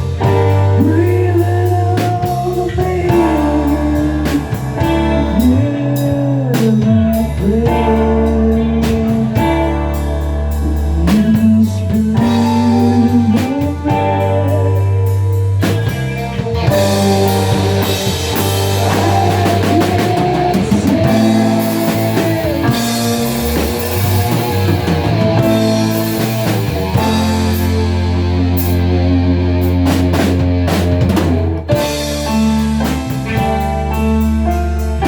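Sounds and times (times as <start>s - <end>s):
bass guitar: 0.0s - 35.0s
drum kit and cymbals: 0.0s - 35.0s
electric guitar bent notes: 0.0s - 35.0s.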